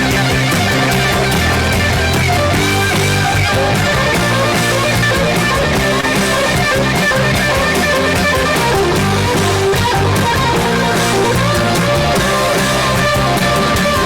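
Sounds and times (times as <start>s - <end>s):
loud electric guitar rock music: 0.0s - 14.0s.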